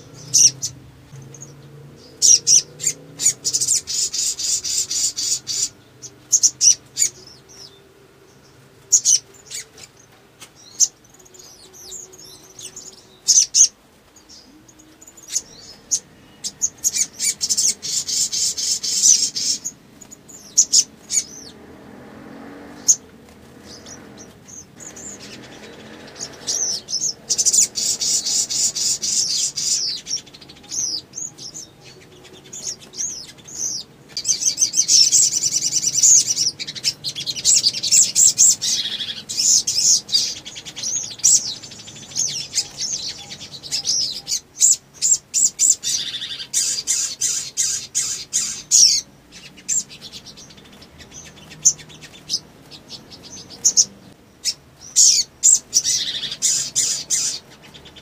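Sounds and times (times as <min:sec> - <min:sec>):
bird twittering and chattering: 0:00.0 - 0:58.0.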